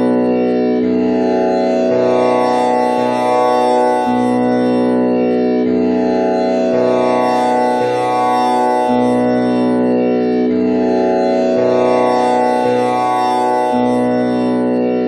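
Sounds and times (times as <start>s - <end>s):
tanpura strings plucked drone: 0.0s - 15.0s.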